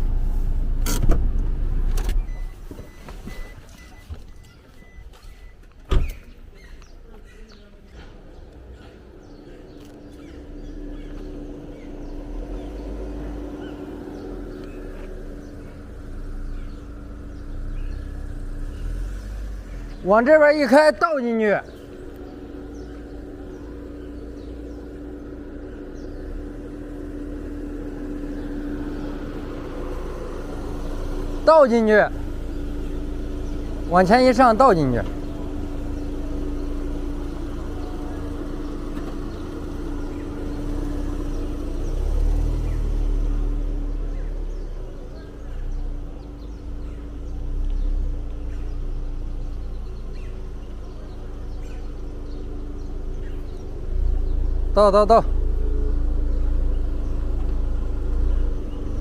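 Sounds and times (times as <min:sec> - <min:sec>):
car engine humming: 0:00.0 - 0:59.0
bird chirps: 0:02.2 - 0:59.0.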